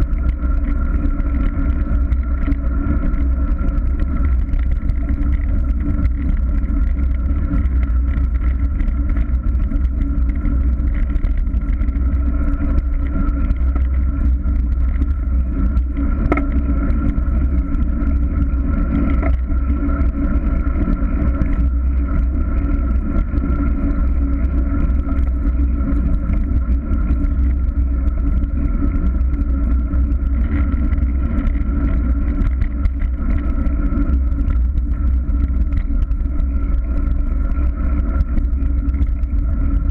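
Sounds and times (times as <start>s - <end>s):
bicycle road rumble: 0.0s - 39.9s
wind rush on microphone: 0.0s - 39.9s.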